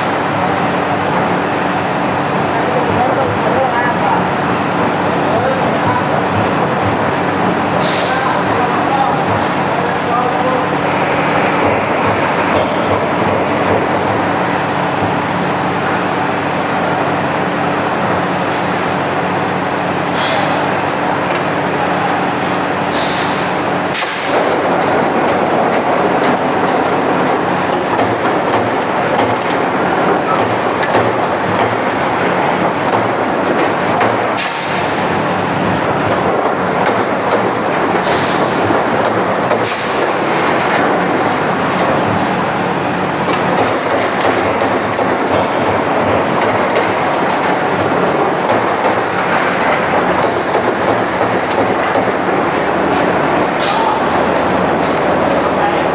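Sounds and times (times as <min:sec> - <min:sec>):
punching machine mechanical din: 0:00.0 - 0:18.8, 0:19.4 - 0:55.9.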